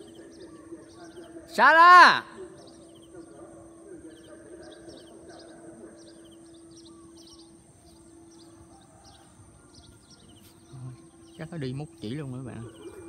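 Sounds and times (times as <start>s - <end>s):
small bird chirping: 2.4s - 13.0s.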